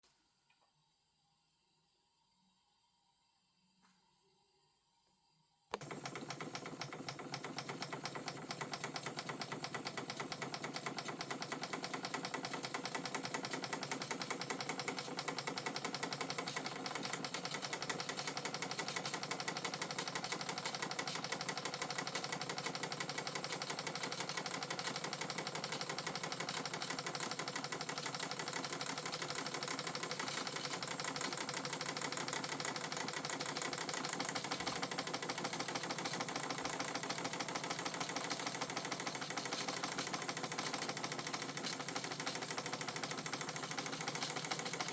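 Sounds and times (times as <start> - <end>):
model steam engine clattering: 5.8 - 44.9.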